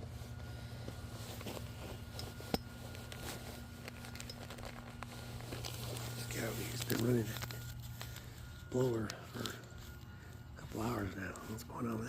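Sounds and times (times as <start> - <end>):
blower droning: 0.0 - 12.0.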